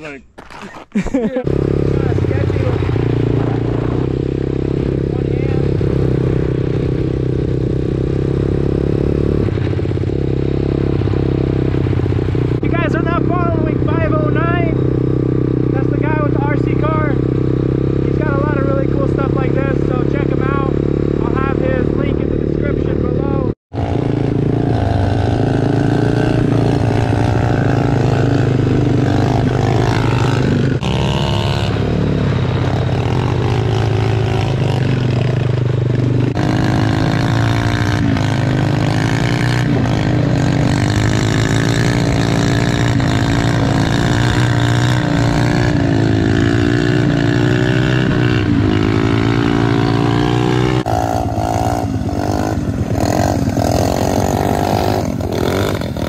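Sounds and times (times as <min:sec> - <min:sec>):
small motorbike engine revving: 0:01.4 - 0:09.5, 0:11.8 - 0:56.0.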